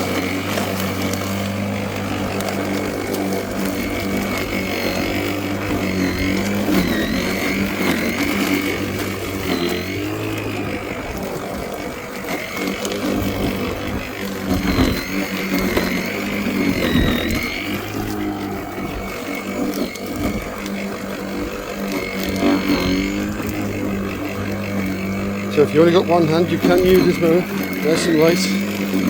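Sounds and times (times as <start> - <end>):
electric lawnmower motor whine: 0.0 - 29.0.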